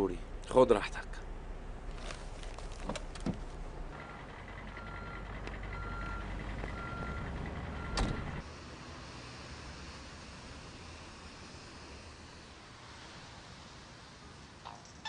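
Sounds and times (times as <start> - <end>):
low vehicle hum: 0.0 - 15.0.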